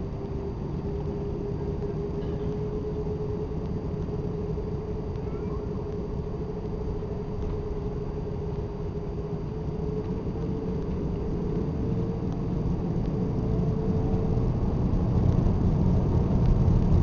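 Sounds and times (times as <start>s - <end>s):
dense low rumble: 0.0s - 17.0s
jet engine whine: 0.0s - 17.0s.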